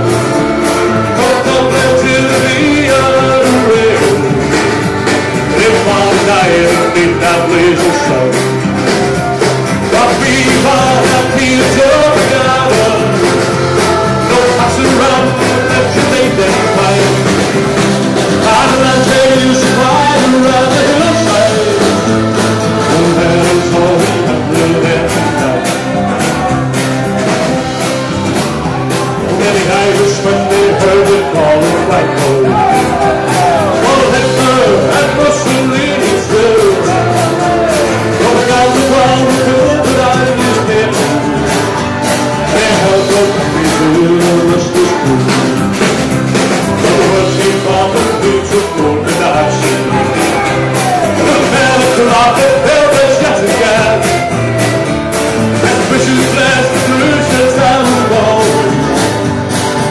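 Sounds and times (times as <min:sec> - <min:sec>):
live folk band playing: 0:00.0 - 0:59.9.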